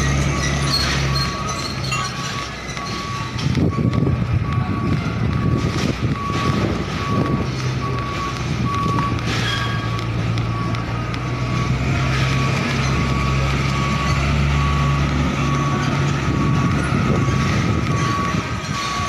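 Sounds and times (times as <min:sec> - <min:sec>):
diesel engine running: 0:00.0 - 0:19.0
reversing alarm beeping: 0:00.0 - 0:19.0.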